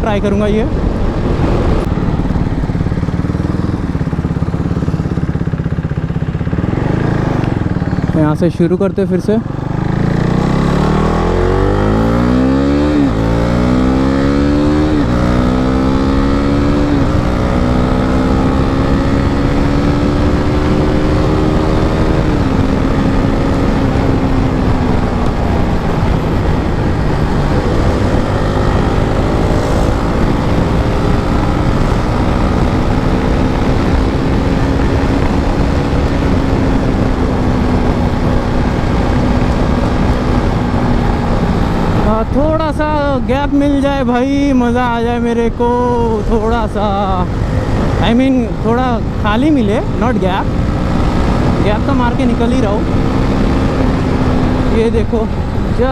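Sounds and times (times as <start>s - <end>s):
wind noise on microphone: 0.0s - 7.8s, 9.9s - 55.9s
motorcycle engine accelerating: 0.0s - 55.9s.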